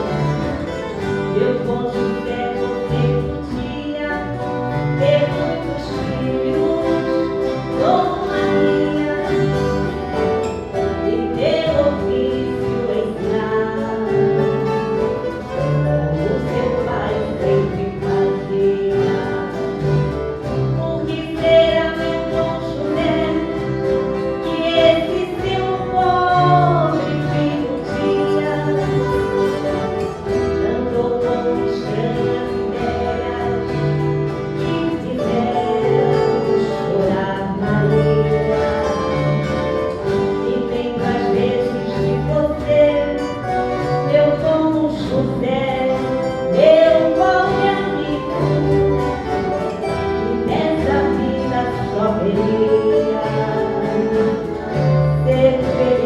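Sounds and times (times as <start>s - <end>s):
strummed and plucked violas: 0.0s - 56.0s
voices singing melody: 0.0s - 56.0s.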